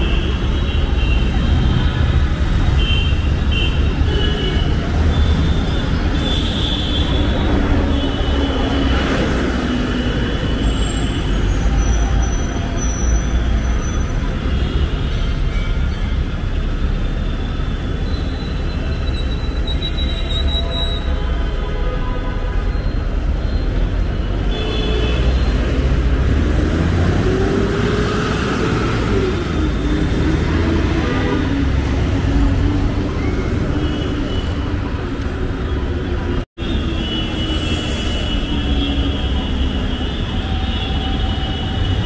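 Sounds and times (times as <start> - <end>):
road traffic rumbling: 0.0 - 21.6, 22.4 - 42.0.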